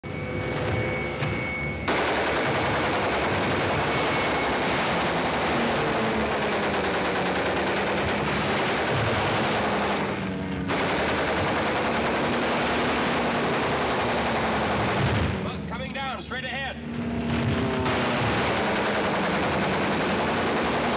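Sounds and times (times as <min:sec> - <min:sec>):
aircraft engines droning: 0:00.0 - 0:20.9
machine guns firing bursts: 0:01.9 - 0:16.1, 0:17.7 - 0:20.9.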